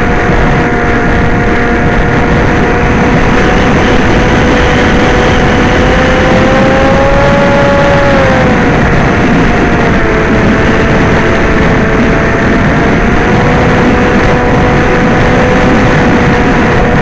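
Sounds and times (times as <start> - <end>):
electric motor and propeller whine: 0.0 - 17.0
wind rush: 0.0 - 17.0.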